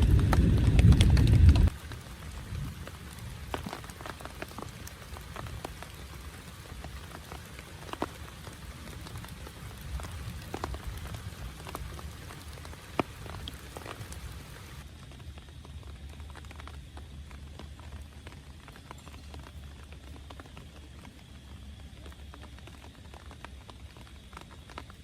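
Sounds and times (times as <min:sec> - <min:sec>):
rain on a tent: 0:00.0 - 0:25.0
raindrops striking sharply: 0:00.0 - 0:25.0.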